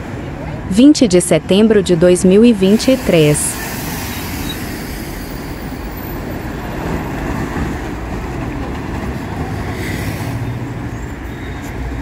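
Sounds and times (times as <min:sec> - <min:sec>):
bus engines running: 0:00.0 - 0:12.0.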